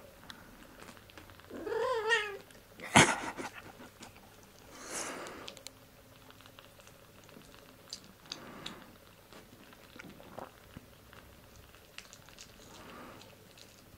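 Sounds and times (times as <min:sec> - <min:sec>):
kittens suckling: 0:00.6 - 0:13.9.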